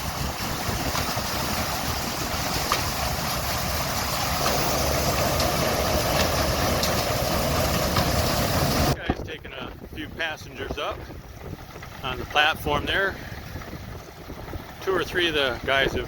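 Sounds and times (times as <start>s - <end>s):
farm machinery engines rumbling: 0.0s - 16.0s
wind noise on microphone: 0.0s - 16.0s.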